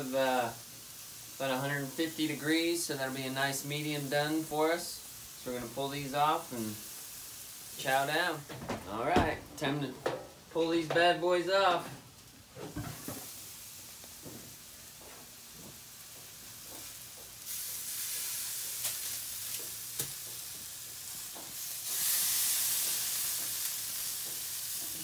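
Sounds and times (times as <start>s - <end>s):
steaks sizzling on a grill: 0.0s - 8.4s, 10.6s - 25.0s.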